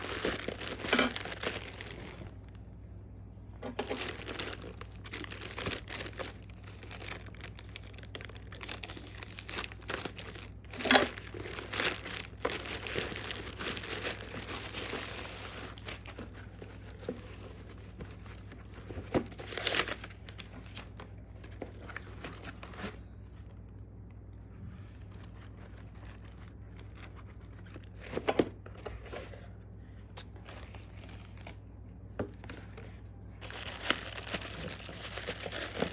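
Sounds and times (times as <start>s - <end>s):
packaging crinkling and rustling: 0.0s - 2.7s, 3.6s - 35.9s.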